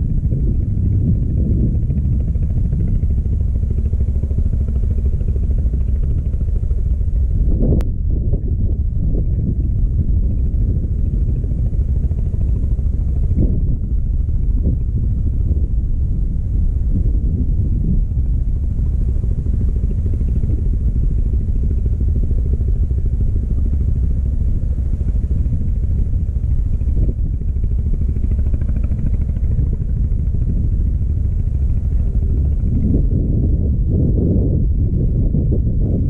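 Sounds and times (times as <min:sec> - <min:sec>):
loud low rumble: 0:00.0 - 0:36.0.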